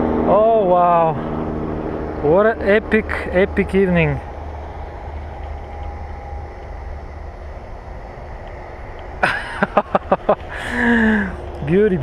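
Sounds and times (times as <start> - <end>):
distant highway traffic: 0.0 - 12.0
faint steady tone: 0.3 - 12.0.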